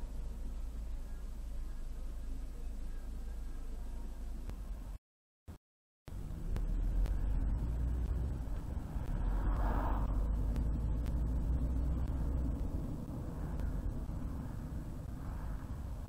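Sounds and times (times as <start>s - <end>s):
car road and engine rumble: 0.0s - 5.0s, 6.1s - 16.0s.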